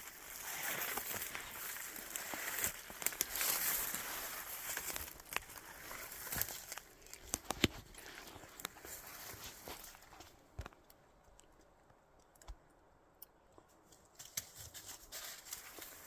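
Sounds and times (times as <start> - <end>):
crunching and crinkling: 0.0 - 12.6, 13.2 - 16.0.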